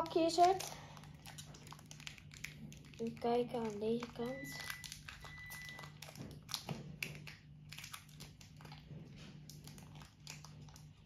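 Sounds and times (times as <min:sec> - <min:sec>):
foil pack crinkling: 0:00.0 - 0:11.0.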